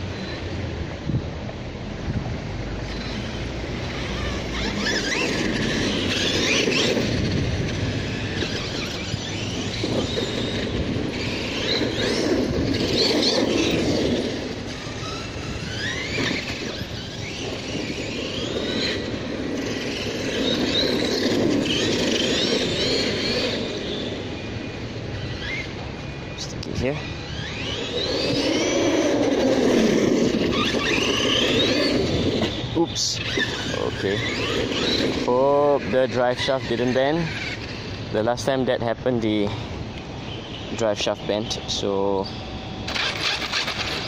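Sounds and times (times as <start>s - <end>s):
tyres rumbling on paving: 0.0s - 44.0s
electric motor whine: 2.0s - 37.9s.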